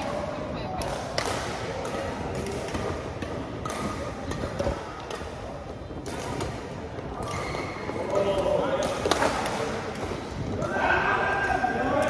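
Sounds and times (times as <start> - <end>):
rackets hitting shuttlecock: 0.0 - 10.7.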